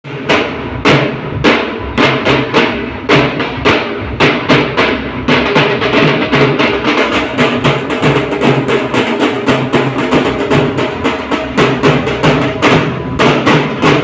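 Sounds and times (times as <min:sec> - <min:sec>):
dhol drumming: 0:00.0 - 0:14.0.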